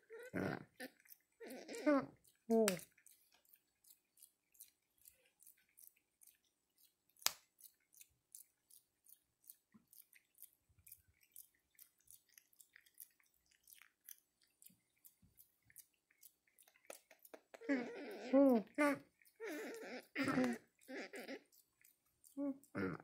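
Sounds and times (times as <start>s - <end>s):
monkey clicks and smacks: 1.0s - 22.8s.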